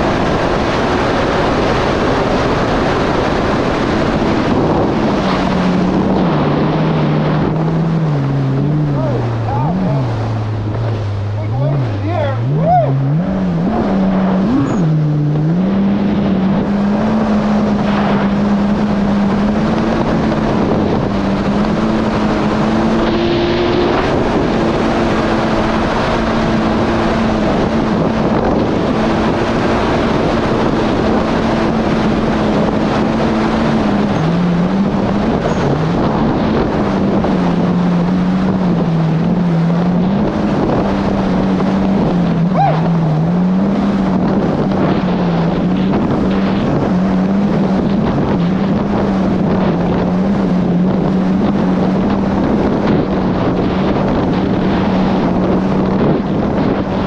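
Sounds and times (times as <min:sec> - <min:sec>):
jet ski engine running: 0:00.0 - 0:57.0
rush of water and wind: 0:00.0 - 0:57.0.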